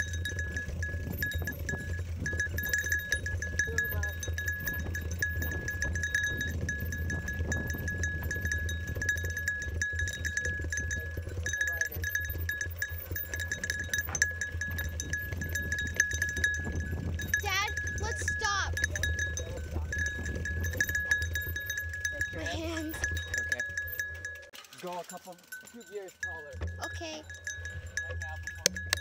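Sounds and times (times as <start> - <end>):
tyres and wind rumble: 0.0 - 24.5
bike hub ticking: 0.0 - 29.0
bike parts clinking: 0.0 - 29.0.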